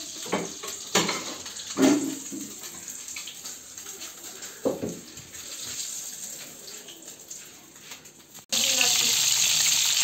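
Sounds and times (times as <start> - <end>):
water running from a tap: 0.0 - 10.0.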